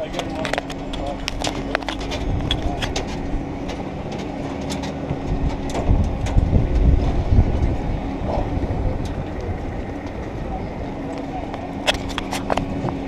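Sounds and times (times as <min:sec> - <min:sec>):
low machine hum: 0:00.0 - 0:13.0
low rumbling on microphone: 0:00.0 - 0:13.0.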